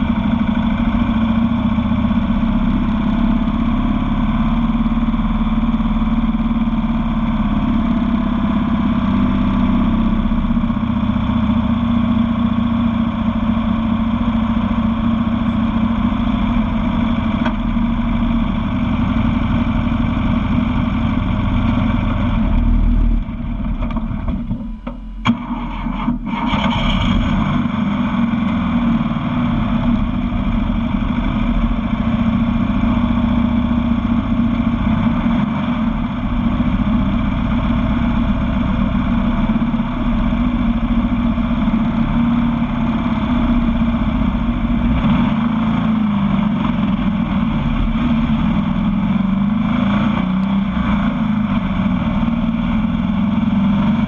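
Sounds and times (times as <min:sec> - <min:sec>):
engine running loudly: 0:00.0 - 0:54.0.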